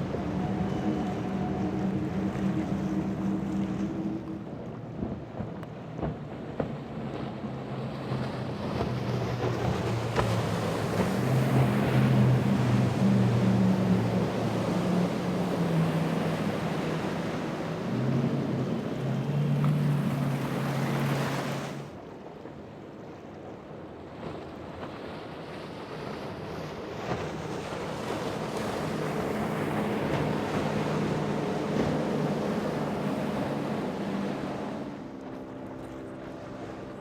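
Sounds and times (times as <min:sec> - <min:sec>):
boat engines humming: 0:00.0 - 0:37.0
surf: 0:00.0 - 0:37.0.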